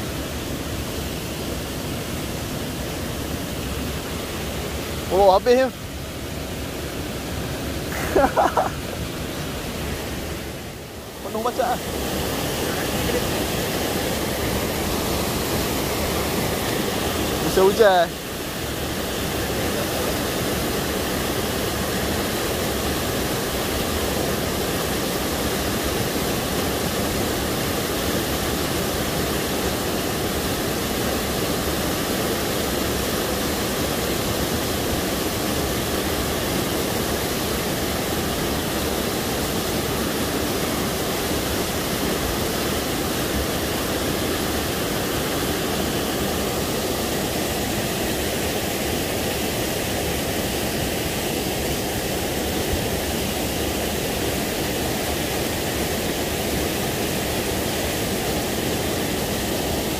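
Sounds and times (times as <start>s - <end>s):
small waterfall rushing: 0.0s - 59.9s.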